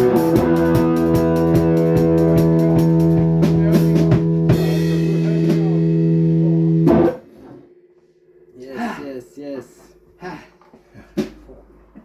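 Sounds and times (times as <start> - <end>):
held guitar chord: 0.0 - 10.7
drum kit beating: 0.0 - 12.0.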